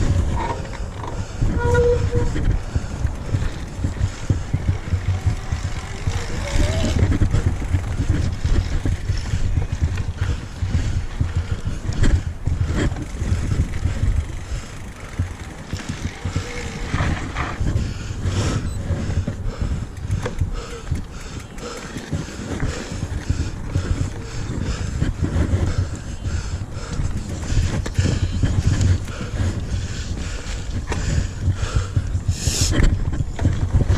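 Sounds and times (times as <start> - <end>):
bike clicking and rattling: 0.0 - 33.9
bike tyres rumbling on dirt: 0.0 - 33.9
wind on microphone: 0.0 - 33.9.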